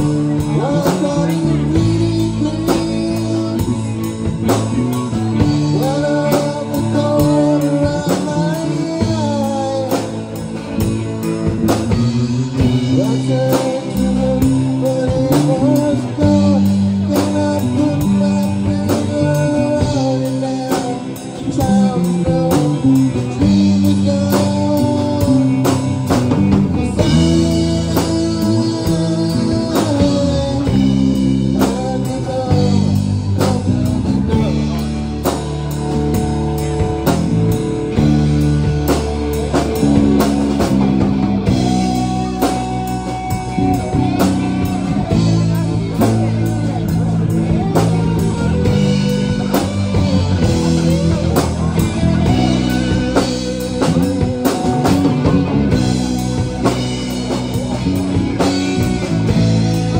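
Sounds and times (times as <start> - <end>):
lead guitar bending notes: 0.0 - 59.9
live rock band playing: 0.0 - 59.9.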